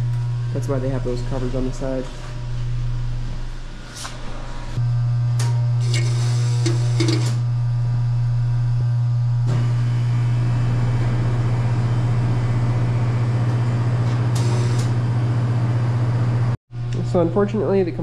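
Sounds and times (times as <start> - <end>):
refrigeration compressor humming: 0.0 - 18.0.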